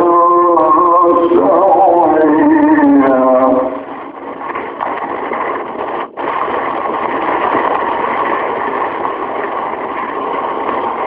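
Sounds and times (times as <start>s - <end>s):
old recording surface noise: 0.0s - 11.0s.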